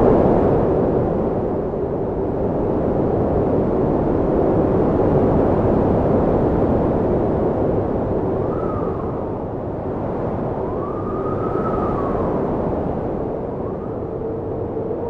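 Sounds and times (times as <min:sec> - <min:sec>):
strong wind rushing and howling: 0:00.0 - 0:15.0.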